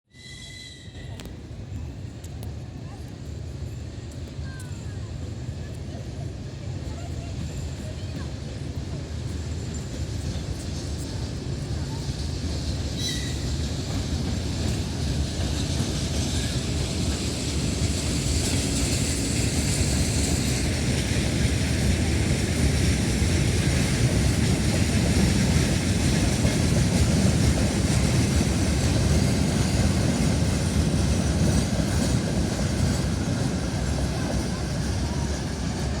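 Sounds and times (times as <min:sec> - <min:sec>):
freight train rumbling past: 0:00.1 - 0:36.0.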